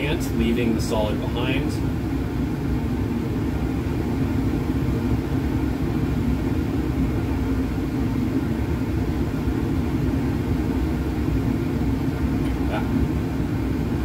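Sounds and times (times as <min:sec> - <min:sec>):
faint constant hum: 0:00.0 - 0:14.0
ventilation airflow rumble: 0:00.0 - 0:14.0.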